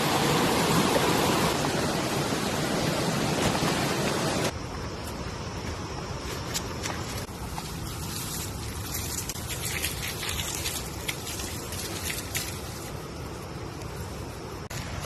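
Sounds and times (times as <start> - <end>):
rain falling in forest: 0.0 - 4.5, 7.2 - 15.0.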